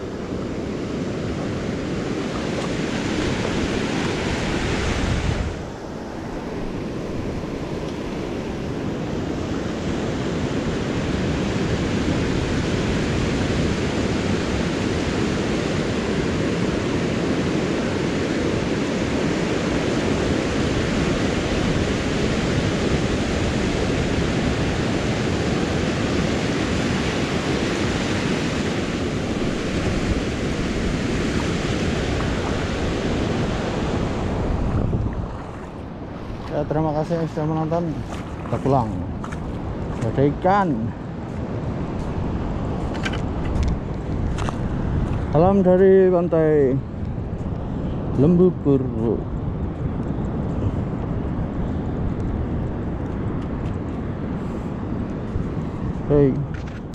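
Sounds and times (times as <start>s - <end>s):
surf breaking on beach: 0.0s - 46.9s
wind buffeting microphone: 0.0s - 56.9s.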